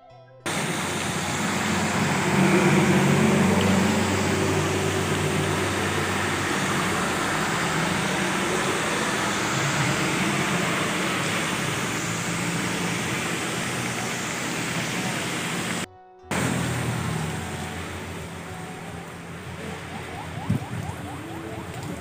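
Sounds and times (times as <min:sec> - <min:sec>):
heavy rain: 0:00.5 - 0:22.0
vehicles passing on wet road: 0:00.5 - 0:22.0.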